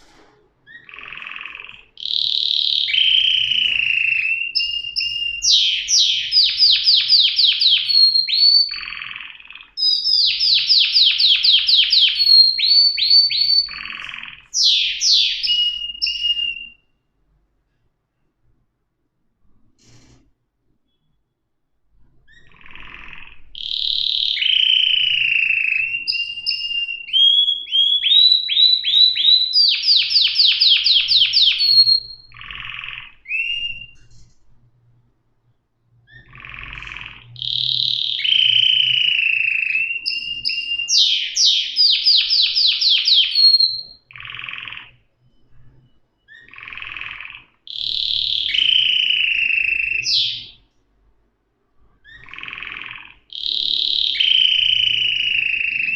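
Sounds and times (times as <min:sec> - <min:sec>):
canary singing trills: 0:00.7 - 0:17.0, 0:22.2 - 0:34.5, 0:36.0 - 0:50.8, 0:51.9 - 0:55.9.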